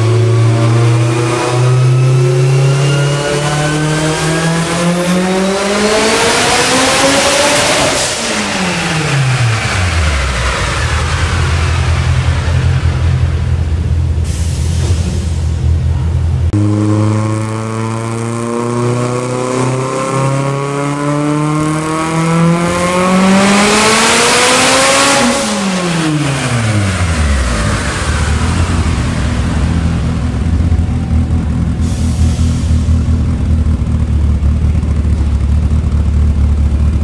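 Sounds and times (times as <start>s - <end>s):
turbocharged car engine revving: 0.0s - 14.4s, 15.6s - 37.0s.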